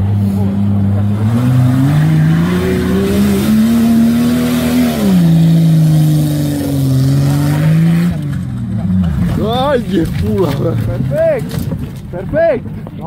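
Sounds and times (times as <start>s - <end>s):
off-road vehicle engine revving: 0.0s - 12.8s.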